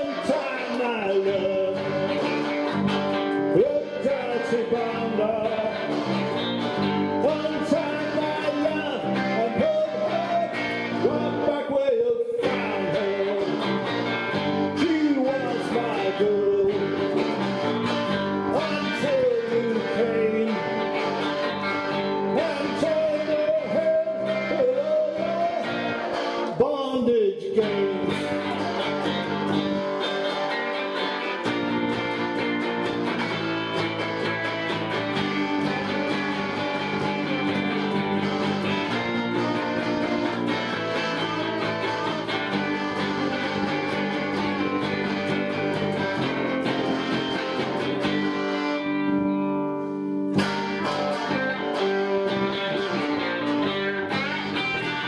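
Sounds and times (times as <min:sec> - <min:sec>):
punk rock song with guitars and drums: 0:00.0 - 0:26.8, 0:27.4 - 0:55.0
bending lead guitar line: 0:00.0 - 0:55.0.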